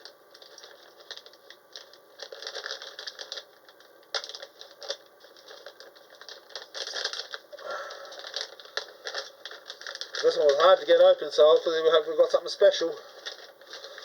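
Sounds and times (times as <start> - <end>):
packaging crinkling and rattling: 0.0 - 14.0.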